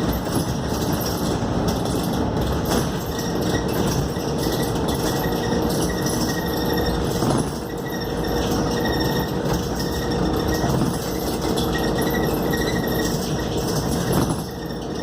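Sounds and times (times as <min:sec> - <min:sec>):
bus engine drone: 0:00.0 - 0:15.0
cabin rattles: 0:00.0 - 0:15.0.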